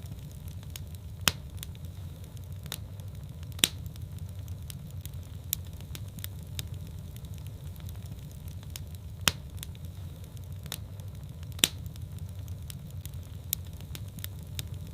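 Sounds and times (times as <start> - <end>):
fire burning in fireplace: 0.0 - 14.9
fire crackling and popping: 0.0 - 14.9.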